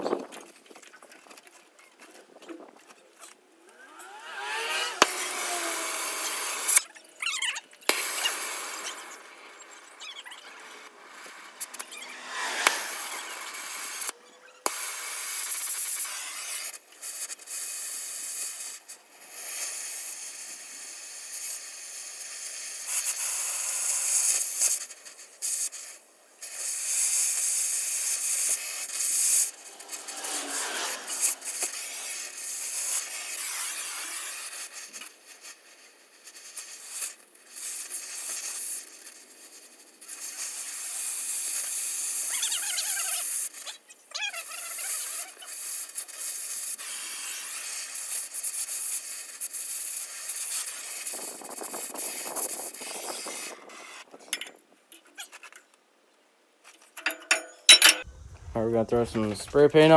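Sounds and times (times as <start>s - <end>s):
gas torch hissing: 3.7s - 6.8s, 7.4s - 43.6s, 44.9s - 54.4s.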